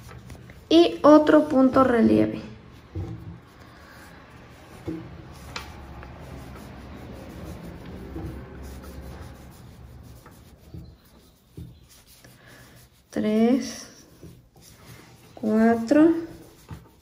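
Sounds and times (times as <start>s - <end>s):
yarn rubbing and rustling: 0.0s - 17.0s.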